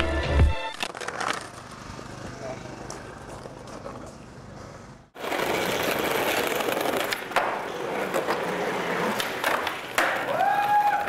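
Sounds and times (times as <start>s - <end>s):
skateboard clack: 0.0s - 11.0s
skateboard wheels rolling on pavement: 0.0s - 11.0s.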